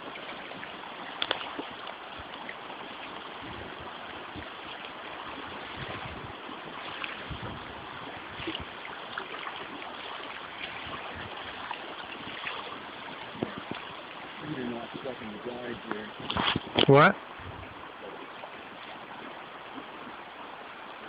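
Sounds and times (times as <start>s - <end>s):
river flowing over gravel: 0.0s - 21.0s.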